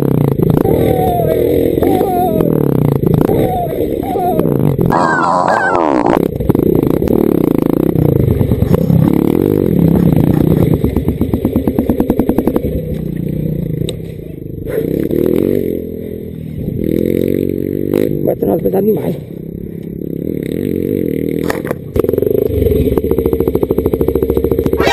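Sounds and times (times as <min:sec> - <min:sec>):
dirt bike engine idling: 0:00.0 - 0:24.9.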